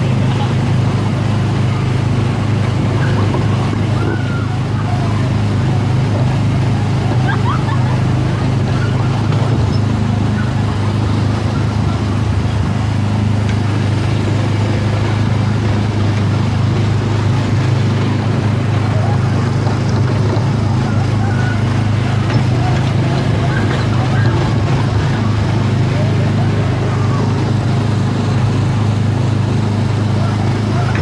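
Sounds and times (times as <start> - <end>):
small gasoline engine droning: 0.0 - 31.0.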